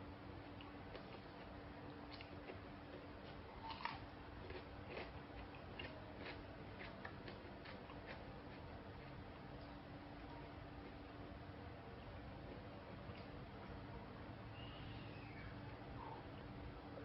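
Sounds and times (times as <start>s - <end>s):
low steady hum: 0.0s - 17.0s
crunchy chewing of fried chicken: 0.1s - 17.0s.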